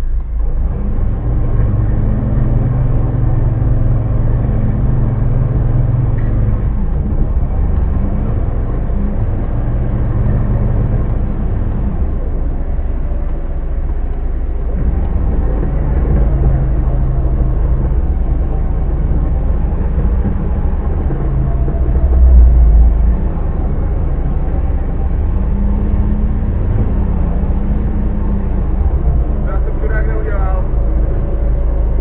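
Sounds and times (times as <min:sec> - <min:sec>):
off-road vehicle engine rumbling: 0:00.0 - 0:32.0.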